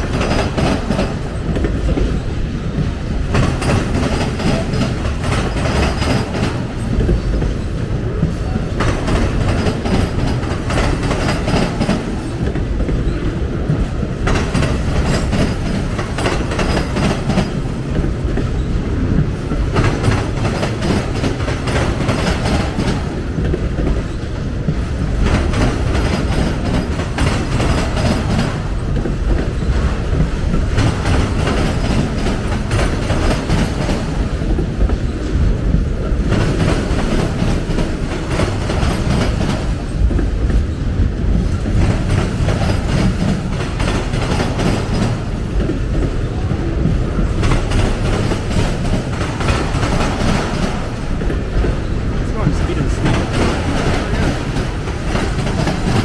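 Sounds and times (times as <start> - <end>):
train rumble: 0.0 - 56.0
train wheels clattering over joints: 0.0 - 56.0.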